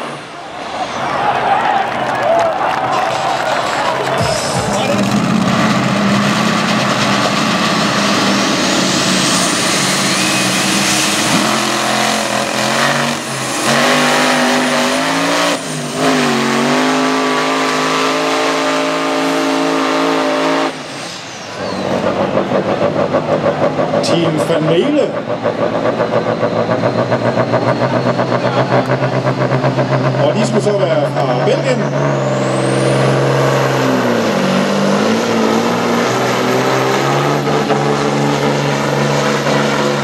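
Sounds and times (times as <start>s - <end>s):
tractor engines at full power: 0.0s - 40.0s
truck diesel engine pulsing: 2.7s - 40.0s.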